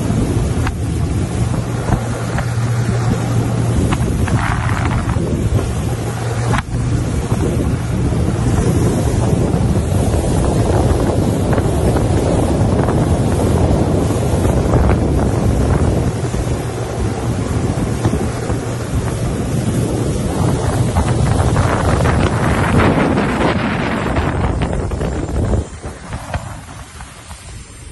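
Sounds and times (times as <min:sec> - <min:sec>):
motorboat engine drone: 0:00.0 - 0:27.9
water rushing: 0:00.0 - 0:27.9
wind buffeting microphone: 0:00.0 - 0:27.9.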